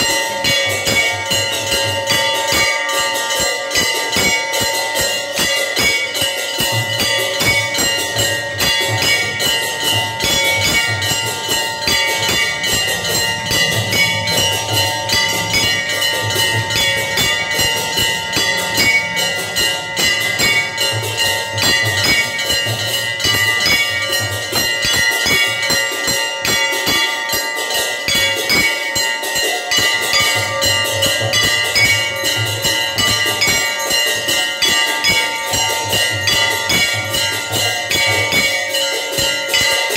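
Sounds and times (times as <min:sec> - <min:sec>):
temple bells ringing: 0:00.0 - 0:39.9.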